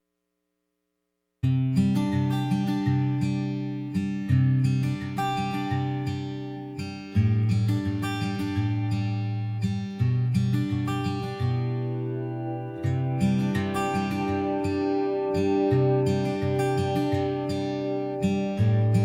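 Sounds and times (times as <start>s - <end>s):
acoustic guitar plucked chords: 1.6s - 19.0s.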